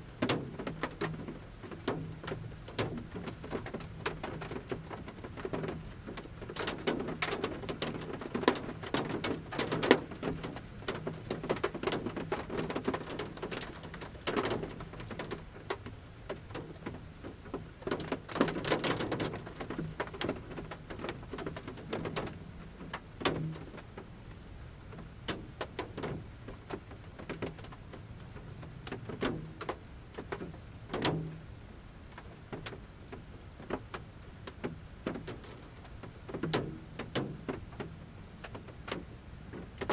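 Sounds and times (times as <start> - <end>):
raindrops tapping on van roof: 0.0 - 39.9.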